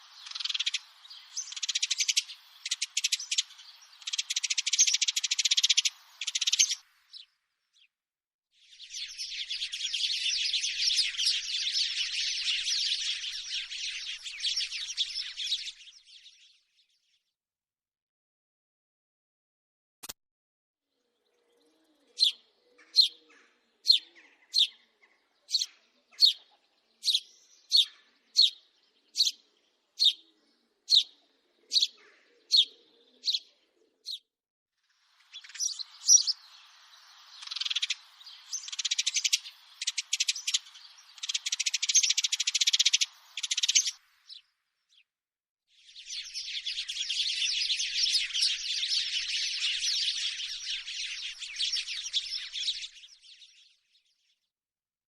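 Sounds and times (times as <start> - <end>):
sparrows chirping: 0.0 - 8.0, 8.6 - 17.3, 21.0 - 45.1, 45.8 - 54.5.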